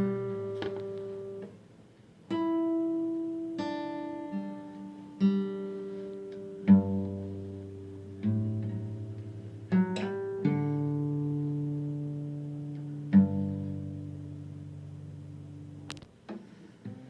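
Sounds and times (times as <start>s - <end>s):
plucked guitar chords ringing: 0.0s - 1.5s, 2.3s - 16.0s.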